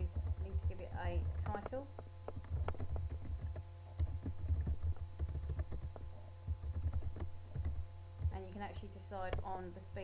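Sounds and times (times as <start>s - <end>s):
low hum: 0.0s - 10.0s
keyboard typing clicks: 0.1s - 8.4s.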